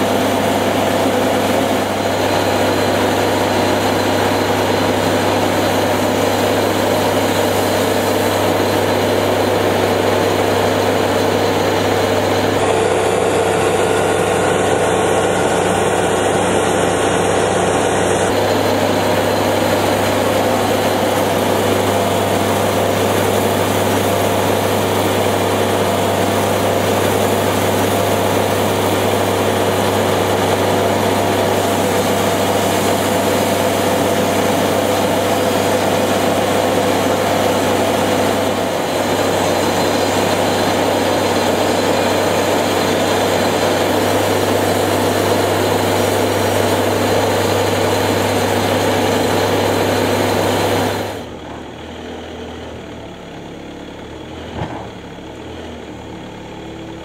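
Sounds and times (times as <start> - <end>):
sawmill engine humming: 0.0 - 57.0.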